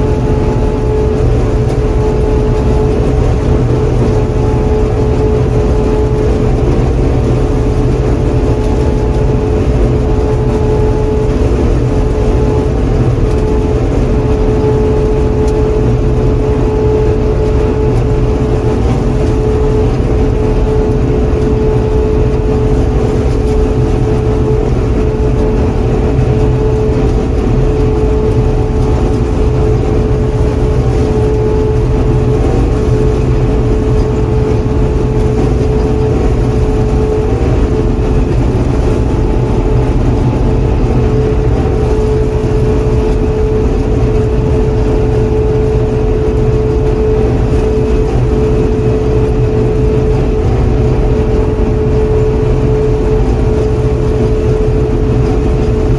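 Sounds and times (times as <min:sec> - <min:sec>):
combine engine drone: 0:00.0 - 0:55.9
steady high whine: 0:00.0 - 0:55.9.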